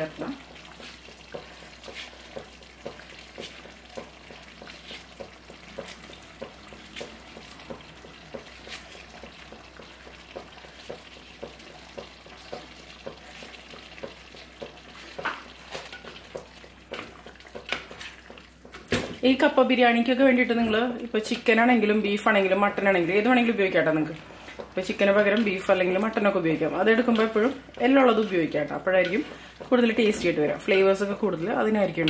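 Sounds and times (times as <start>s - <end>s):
food sizzling in pot: 0.0s - 20.3s, 21.0s - 32.0s.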